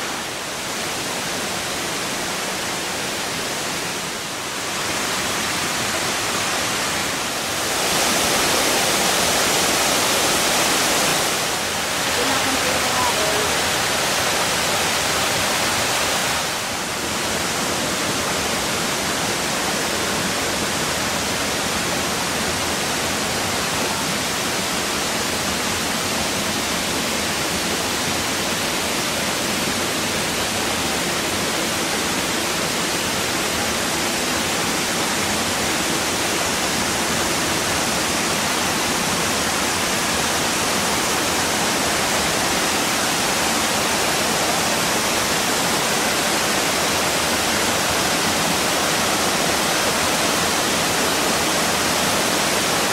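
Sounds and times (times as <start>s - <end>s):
water rushing from waterfall: 0.0s - 52.9s.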